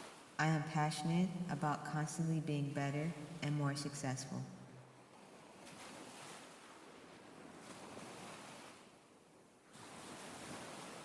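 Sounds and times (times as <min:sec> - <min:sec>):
faint ocean waves: 0:00.0 - 0:11.0.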